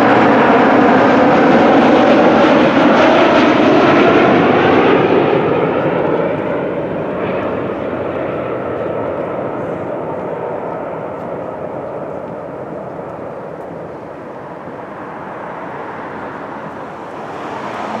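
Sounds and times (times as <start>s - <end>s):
jet airliner engine rushing: 0.0s - 18.0s.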